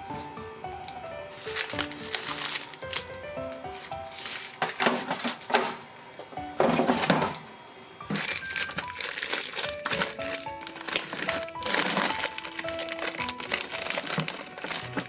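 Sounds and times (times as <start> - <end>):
plastic bags crinkling: 0.0 - 7.4, 8.0 - 15.0
light background music: 0.0 - 15.0.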